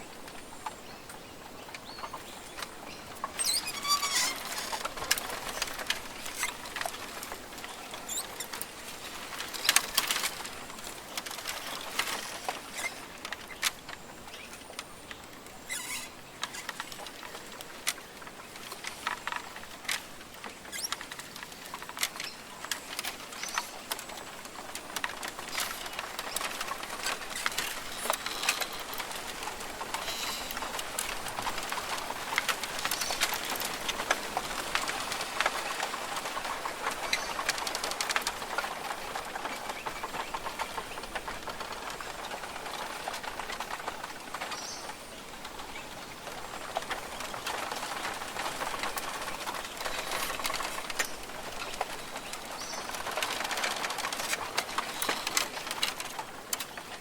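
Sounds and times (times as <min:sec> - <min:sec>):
dense patter of ticks and clicks: 0:00.0 - 0:57.0.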